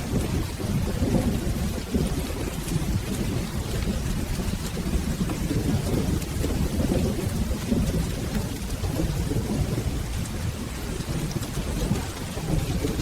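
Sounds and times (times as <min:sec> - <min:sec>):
rolling thunder: 0:00.0 - 0:13.0
steady rain: 0:00.0 - 0:13.0.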